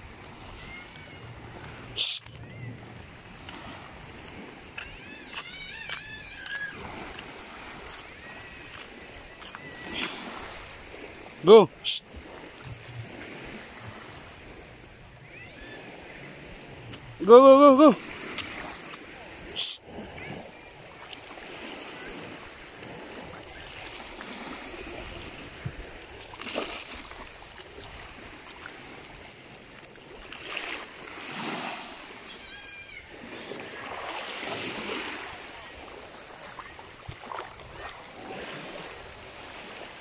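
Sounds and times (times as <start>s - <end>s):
small waves on shallow water: 0.0s - 40.0s
wind: 0.0s - 40.0s.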